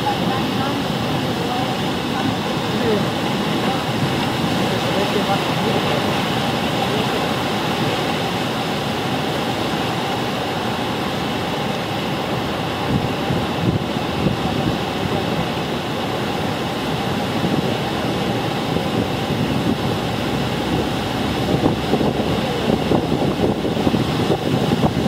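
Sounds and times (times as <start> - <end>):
waterfall rushing: 0.0 - 25.0
wind buffeting microphone: 0.0 - 25.0.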